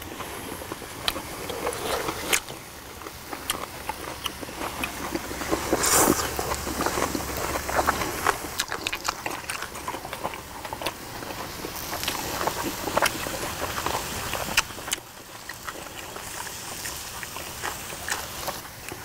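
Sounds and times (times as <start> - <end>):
bite and slurp: 0.0 - 19.0
chewing and lip smacks: 0.0 - 19.0.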